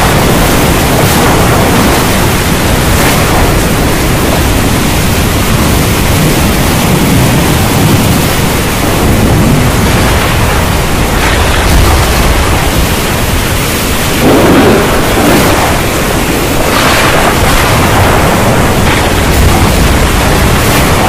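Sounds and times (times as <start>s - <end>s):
heavy rain: 0.0s - 21.0s
tyres on wet road: 0.0s - 21.0s.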